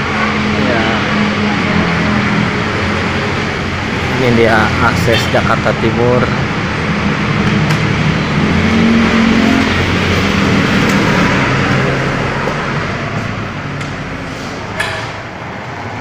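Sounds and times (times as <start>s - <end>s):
vehicle engine running: 0.0s - 15.4s
road traffic: 0.0s - 16.0s.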